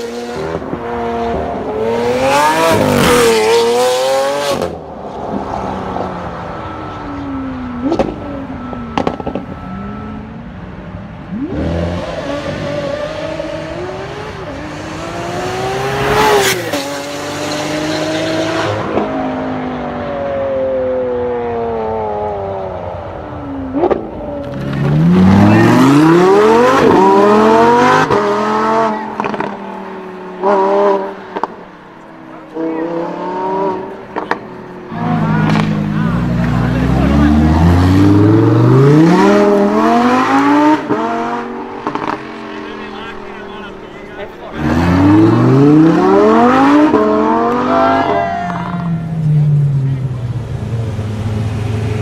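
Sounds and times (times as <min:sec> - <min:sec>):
sports car engine revving: 0:00.0 - 0:06.2, 0:11.2 - 0:52.0.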